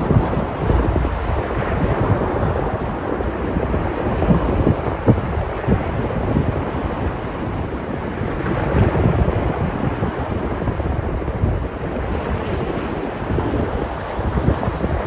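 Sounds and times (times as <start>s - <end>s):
sea surf washing ashore: 0.0s - 15.0s
wind buffeting microphone: 0.0s - 15.0s.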